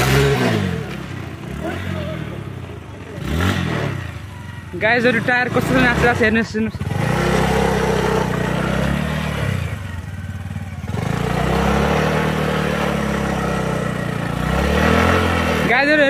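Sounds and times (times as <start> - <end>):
motorcycle engine under load: 0.0 - 16.0.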